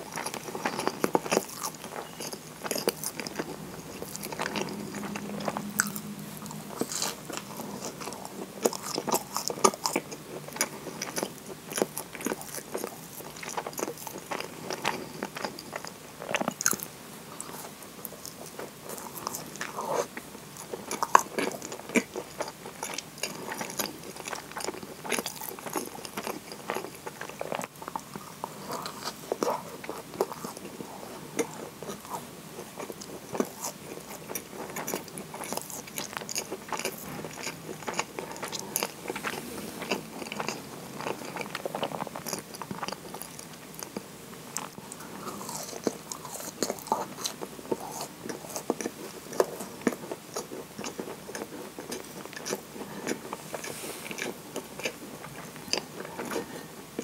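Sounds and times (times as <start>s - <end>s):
chewing scone: 0.0s - 57.0s.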